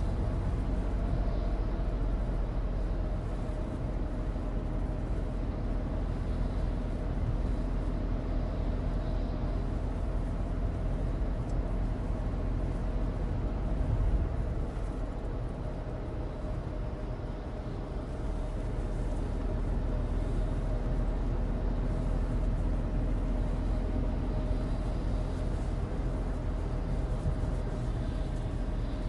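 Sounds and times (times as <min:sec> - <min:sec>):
car engine running: 0:00.0 - 0:29.0
road and tyre noise: 0:00.0 - 0:29.0.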